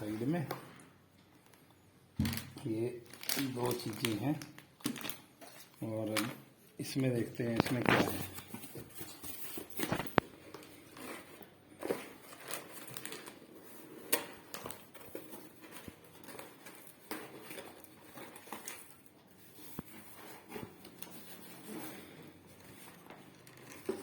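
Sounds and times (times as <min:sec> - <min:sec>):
plastic packaging crinkling: 0:01.3 - 0:24.0.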